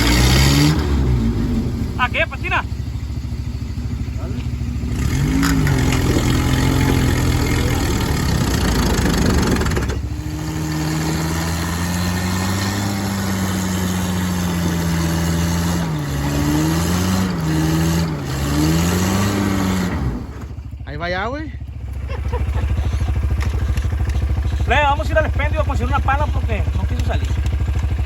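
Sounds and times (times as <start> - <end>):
truck engine revving: 0.0 - 20.8, 21.6 - 28.0.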